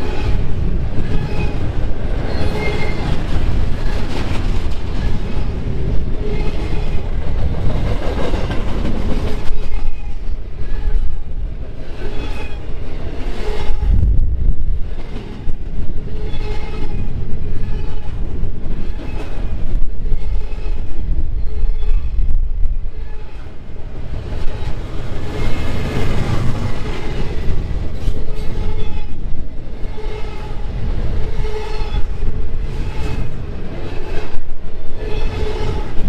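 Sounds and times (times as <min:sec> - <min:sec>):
heavy rumble of wheels on rails: 0:00.0 - 0:36.0.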